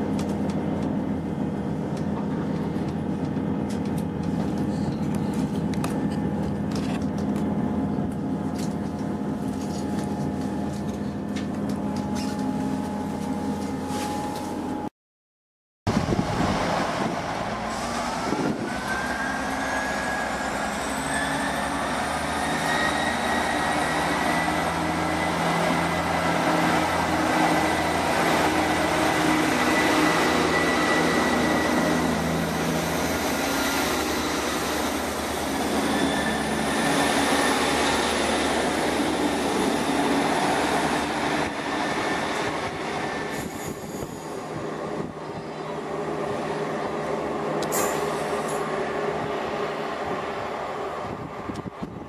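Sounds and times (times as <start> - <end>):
diesel train engines whining: 0.0 - 14.9, 15.9 - 52.0.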